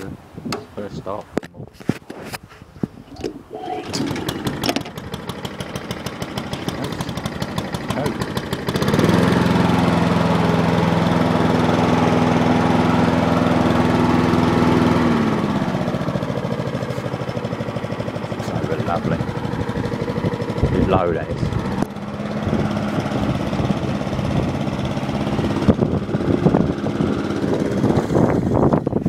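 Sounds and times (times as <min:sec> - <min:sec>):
lawn mower engine starting and running: 0:02.2 - 0:29.0.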